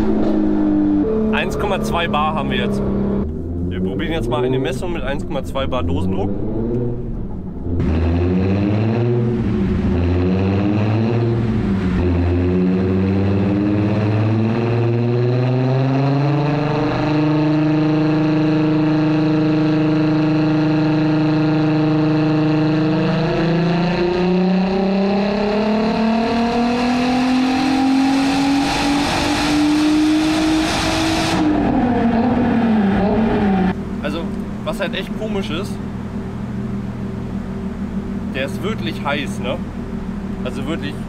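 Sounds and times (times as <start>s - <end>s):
turbocharged car engine revving: 0.0s - 41.0s.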